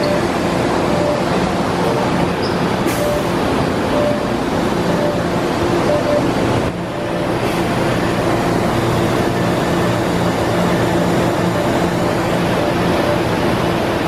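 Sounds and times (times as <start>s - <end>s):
subway train humming: 0.0s - 14.0s.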